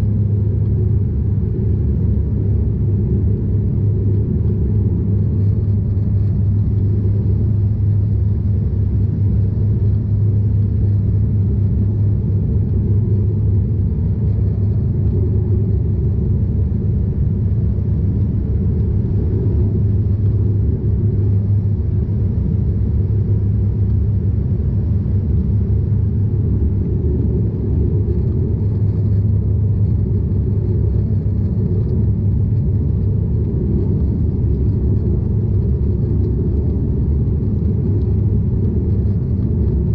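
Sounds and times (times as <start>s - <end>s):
propeller aircraft cabin drone: 0.0s - 39.9s
rushing airflow: 0.0s - 39.9s.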